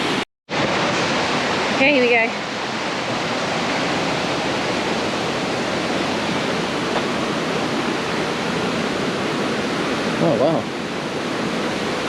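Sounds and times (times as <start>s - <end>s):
water rushing down a creek: 0.0s - 12.0s.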